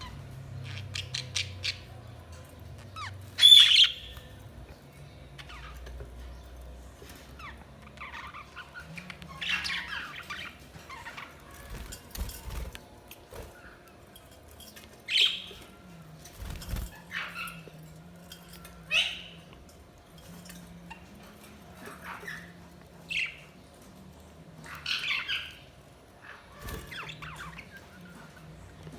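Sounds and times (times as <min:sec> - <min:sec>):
budgerigars chirping and squawking: 0:00.0 - 0:24.0, 0:24.6 - 0:28.9.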